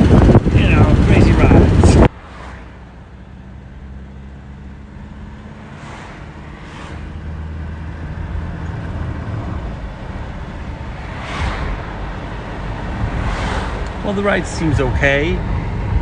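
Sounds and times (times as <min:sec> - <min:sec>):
diesel car engine running: 0:00.0 - 0:16.0
road noise: 0:00.0 - 0:16.0.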